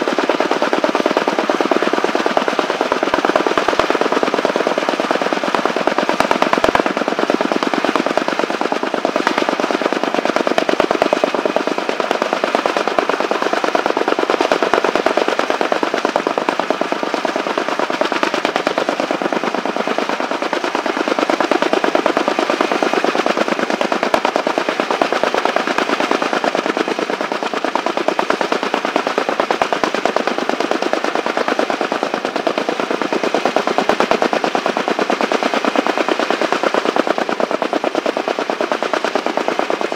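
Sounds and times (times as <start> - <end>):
helicopter rotor blades chopping: 0.0 - 39.9.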